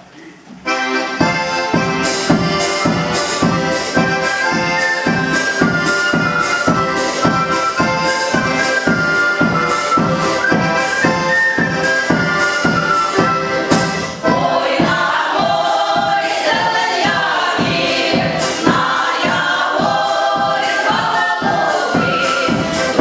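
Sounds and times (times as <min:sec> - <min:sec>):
accordion: 0:00.6 - 0:23.0
steady beat: 0:00.7 - 0:23.0.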